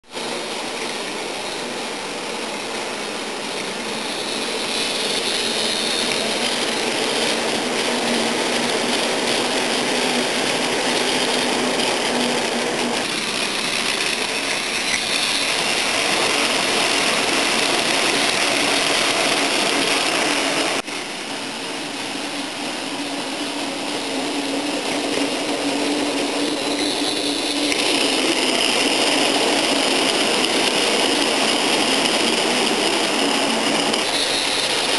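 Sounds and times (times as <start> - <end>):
toy train motor whirring: 0.2 - 20.9, 23.0 - 34.9.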